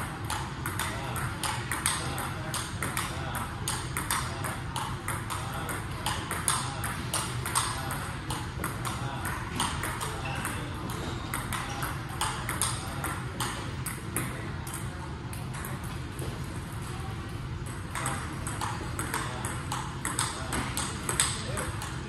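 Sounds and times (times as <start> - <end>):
table tennis ball hits: 0.2 - 16.3, 17.6 - 22.0.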